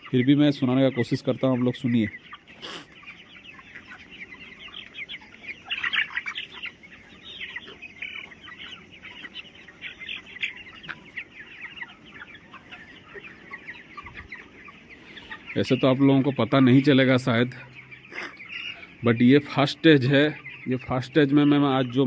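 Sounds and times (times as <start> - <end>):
chicks chirping and peeping: 0.0 - 22.0.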